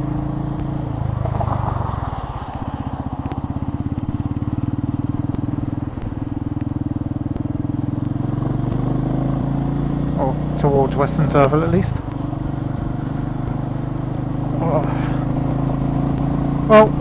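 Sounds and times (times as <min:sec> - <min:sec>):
motorcycle engine pulsing: 0:00.0 - 0:17.0.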